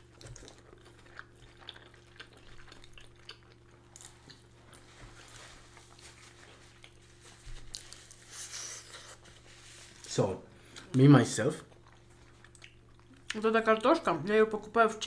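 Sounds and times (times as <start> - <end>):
soft chewing: 0.0 - 13.9
steady low hum: 0.0 - 15.0.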